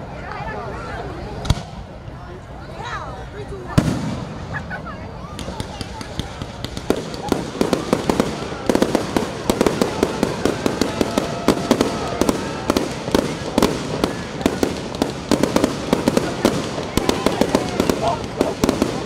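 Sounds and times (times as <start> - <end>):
fireworks bangs and crackles: 1.4 - 2.0, 3.6 - 19.0.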